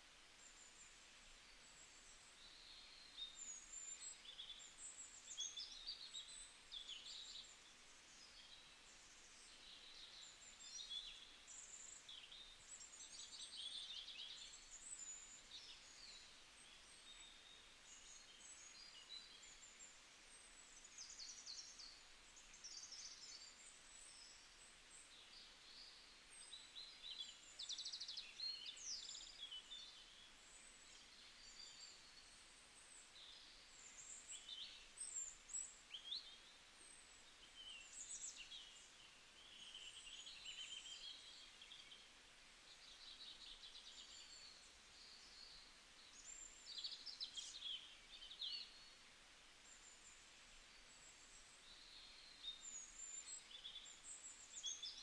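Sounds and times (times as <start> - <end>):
light hiss: 0.0 - 55.0.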